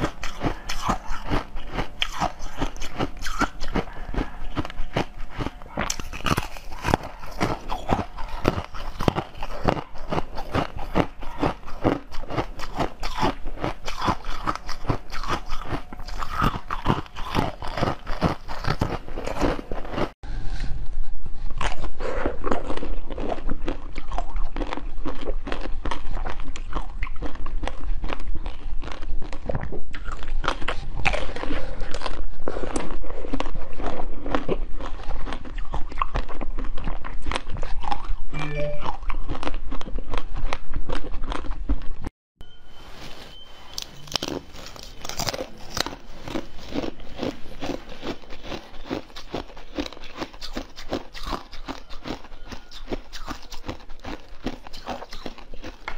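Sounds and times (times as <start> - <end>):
crunchy chewing: 0.0 - 20.2, 21.4 - 42.1, 43.6 - 55.9
biting into sweet: 0.0 - 20.8, 21.4 - 42.0, 43.6 - 55.9.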